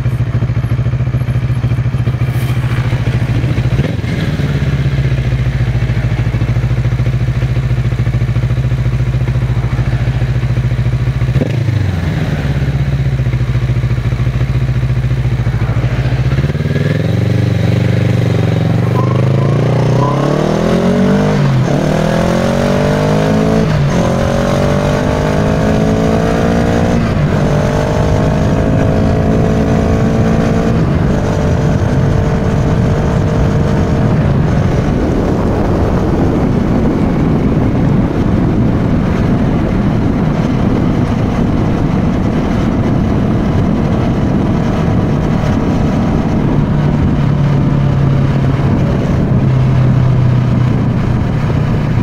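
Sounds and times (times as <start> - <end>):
motorcycle engine accelerating: 0.0 - 52.0
wind noise: 0.0 - 52.0.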